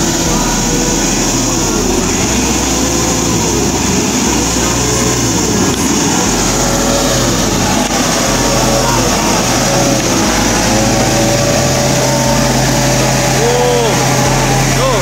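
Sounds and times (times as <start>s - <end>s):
truck engines revving under load: 0.0s - 15.0s.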